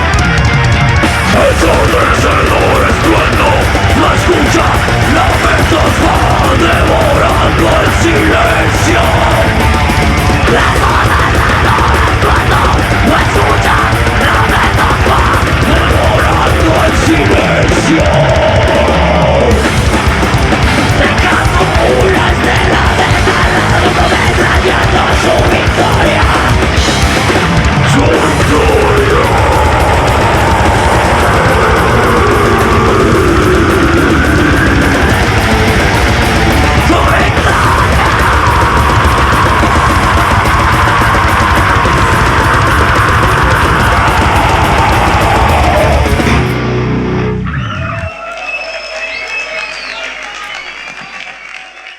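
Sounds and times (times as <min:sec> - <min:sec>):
sliding guitar: 0:00.0 - 0:48.1
drums: 0:00.0 - 0:51.9.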